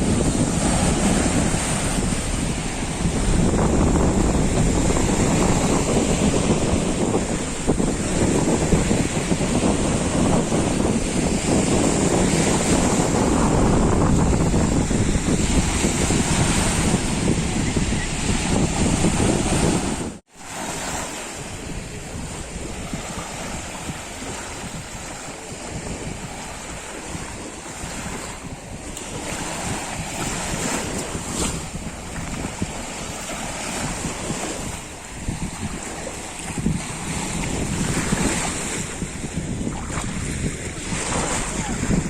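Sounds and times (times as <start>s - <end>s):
waves washing onto shore: 0.0s - 42.0s.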